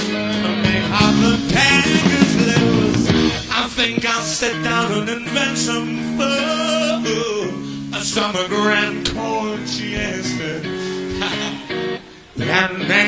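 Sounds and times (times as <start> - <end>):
man singing: 0.0 - 13.0
rock band playing: 0.0 - 13.0.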